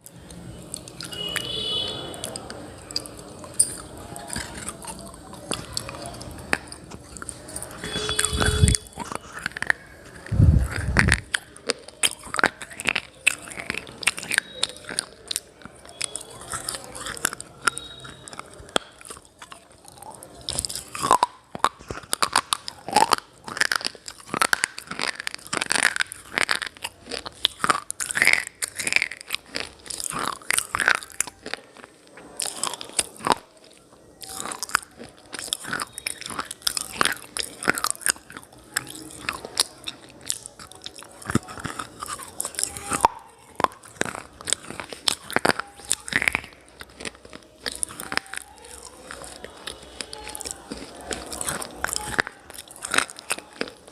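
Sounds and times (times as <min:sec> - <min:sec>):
crisp chewing crunches: 0:00.0 - 0:53.9.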